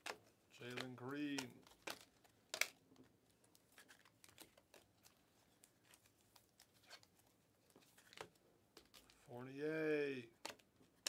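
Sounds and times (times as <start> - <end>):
cards being flipped through: 0.0 - 9.3.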